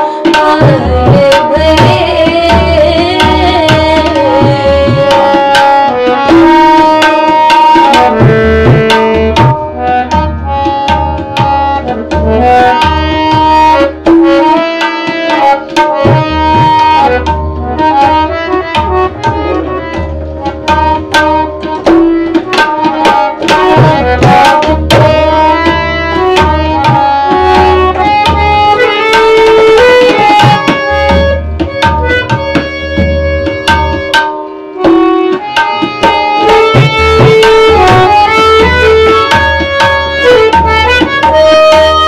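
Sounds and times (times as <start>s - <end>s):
tabla drumming: 0.0s - 42.0s.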